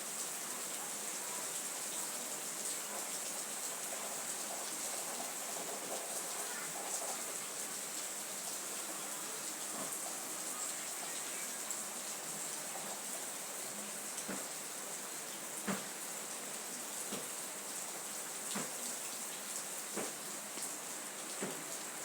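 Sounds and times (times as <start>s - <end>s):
faint raindrops: 0.0s - 22.0s
steady rain hiss: 0.0s - 22.0s.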